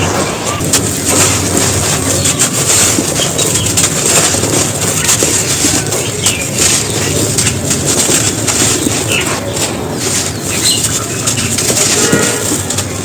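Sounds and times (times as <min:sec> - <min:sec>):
brick crunching and crumbling: 0:00.0 - 0:13.0.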